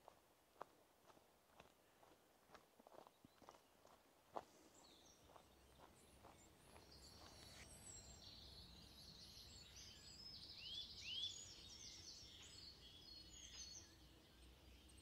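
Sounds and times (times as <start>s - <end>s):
small birds chirping: 2.9s - 15.0s.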